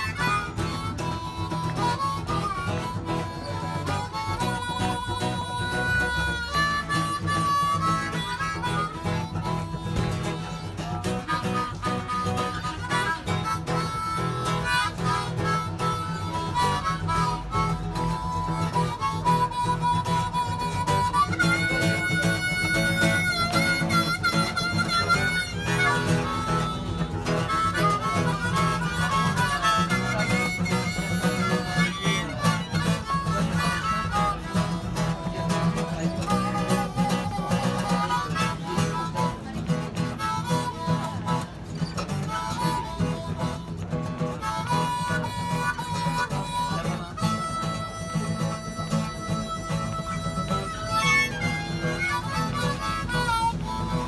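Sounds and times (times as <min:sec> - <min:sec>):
guitar playing: 0:00.0 - 0:54.0
harmonica melody: 0:00.0 - 0:54.0.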